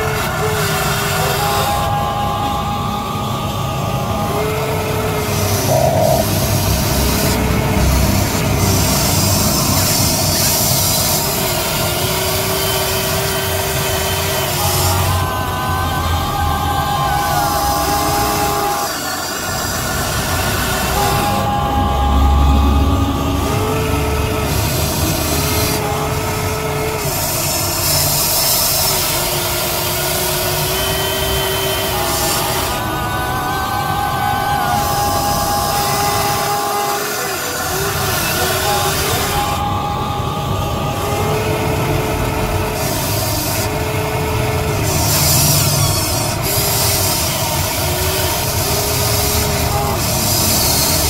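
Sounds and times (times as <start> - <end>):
small electric motors whining: 0.0 - 51.0.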